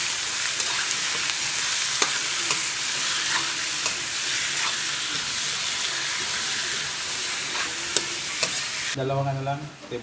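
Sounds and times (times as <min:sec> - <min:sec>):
chicken sizzling in hot oil: 0:00.0 - 0:09.0
metal ladle scraping a wok: 0:00.5 - 0:09.0.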